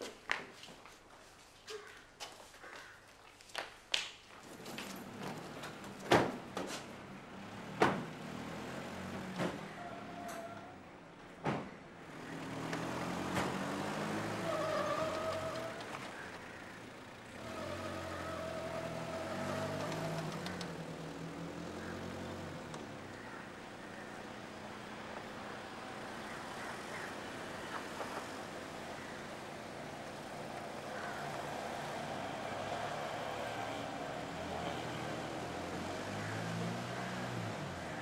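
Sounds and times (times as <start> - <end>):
car engines running: 4.4 - 38.0.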